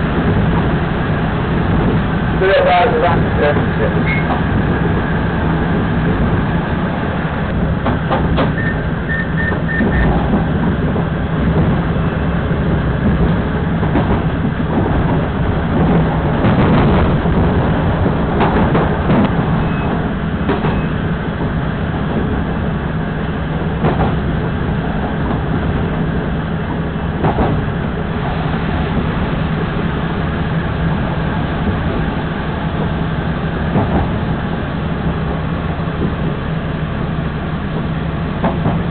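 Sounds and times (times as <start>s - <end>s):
train engine hum: 0.0s - 38.9s
wheels clacking on rail joints: 0.0s - 38.9s.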